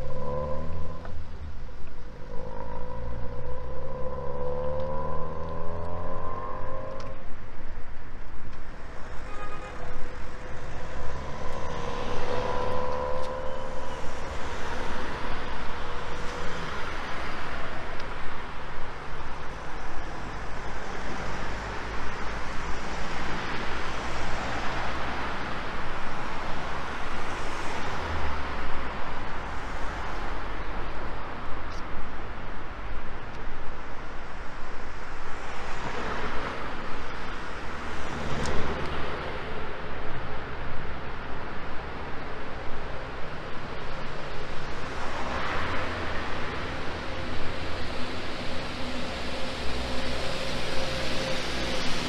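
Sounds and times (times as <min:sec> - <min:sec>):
cars driving past: 0:00.0 - 0:52.0.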